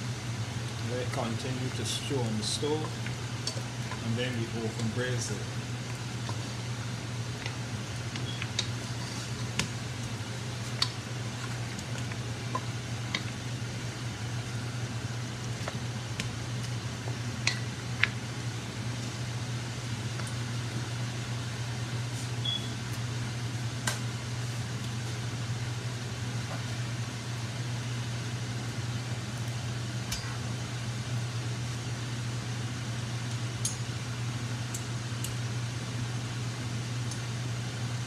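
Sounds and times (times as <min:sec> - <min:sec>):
range hood fan humming: 0:00.0 - 0:38.0.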